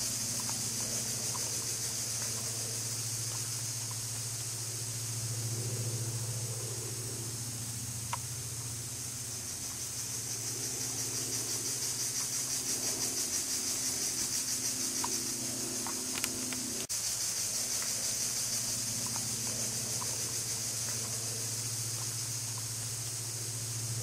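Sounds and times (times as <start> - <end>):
high insect buzz: 0.0 - 24.0
low steady hum: 0.0 - 24.0.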